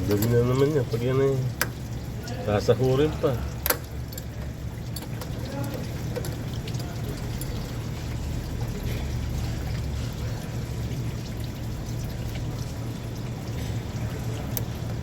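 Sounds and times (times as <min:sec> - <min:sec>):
liquid pouring in a stream: 0:00.0 - 0:15.0.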